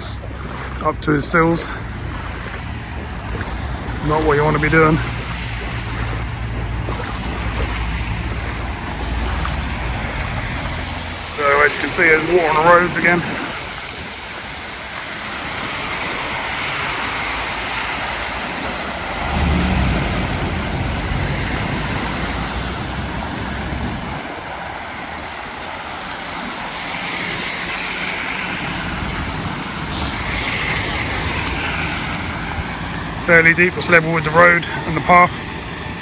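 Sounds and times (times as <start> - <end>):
car passing on wet road: 0.0 - 36.0.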